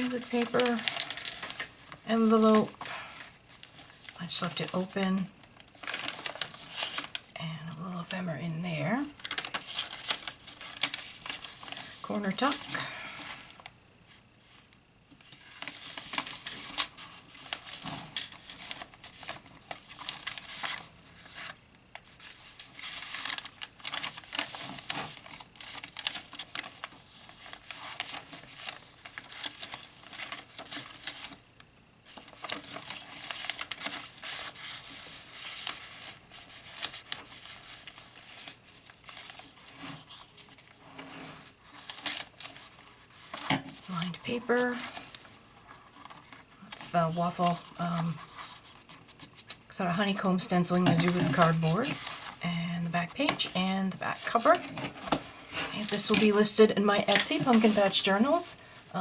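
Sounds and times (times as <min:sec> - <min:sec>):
paper rustling and crinkling: 0:00.0 - 0:07.4, 0:08.9 - 0:59.0.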